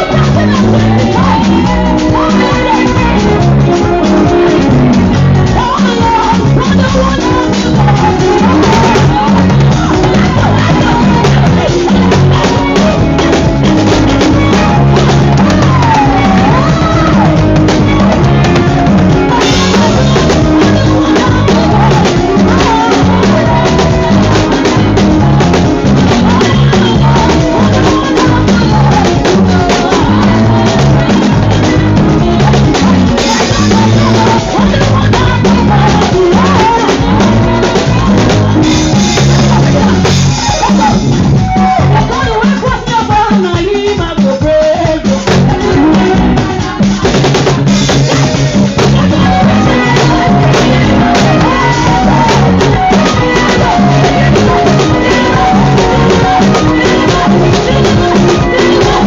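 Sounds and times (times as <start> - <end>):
loud music with drums: 0.0 - 59.0
person singing: 0.0 - 59.0.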